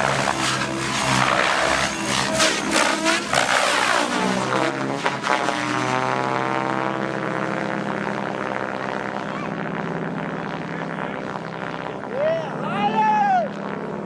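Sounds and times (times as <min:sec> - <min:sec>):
rc helicopter whirring hum: 0:00.0 - 0:14.0.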